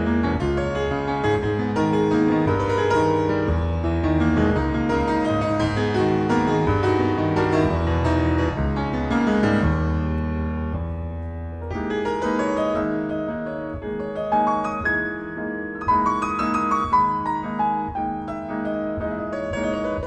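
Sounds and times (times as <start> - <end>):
solo piano jazz piece: 0.0 - 20.0.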